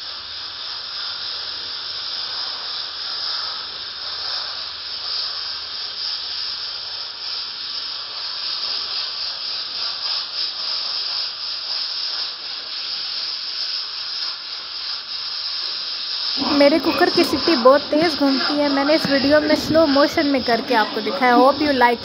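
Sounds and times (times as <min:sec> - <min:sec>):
pressure cooker hissing steam: 0:00.0 - 0:22.0.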